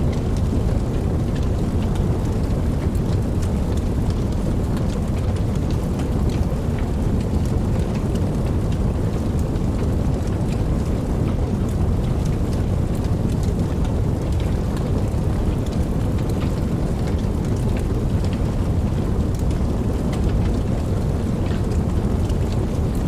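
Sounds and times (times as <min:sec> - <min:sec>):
raindrop ticks: 0:00.0 - 0:23.0
steady rain falling: 0:00.0 - 0:23.0.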